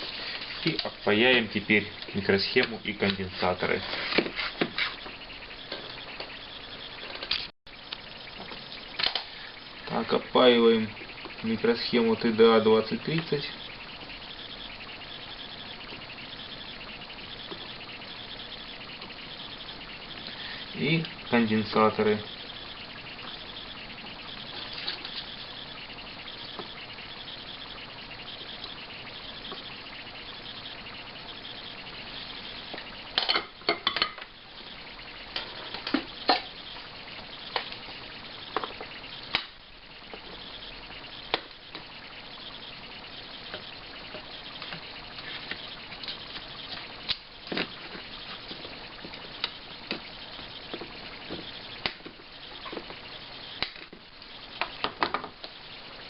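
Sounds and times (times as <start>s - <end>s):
sizzling solder clicks and crackles: 0.0s - 56.0s
steady hiss: 7.0s - 56.0s.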